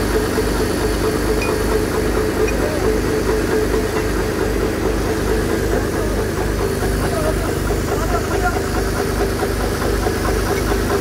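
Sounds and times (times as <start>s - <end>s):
engine running with low throb: 0.0s - 11.0s.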